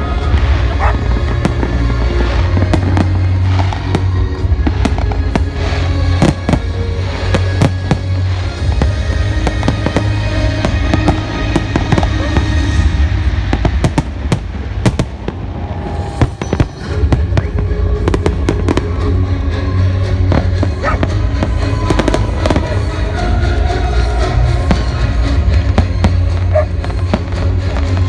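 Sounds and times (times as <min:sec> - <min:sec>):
fireworks bangs: 0:00.0 - 0:19.2, 0:20.3 - 0:28.0
continuous low rumble: 0:00.0 - 0:28.0
music playing: 0:00.0 - 0:28.0.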